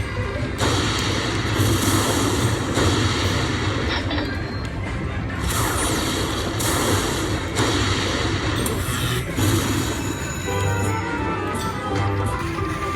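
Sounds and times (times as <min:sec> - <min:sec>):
slot machine music and effects: 0:00.0 - 0:12.9.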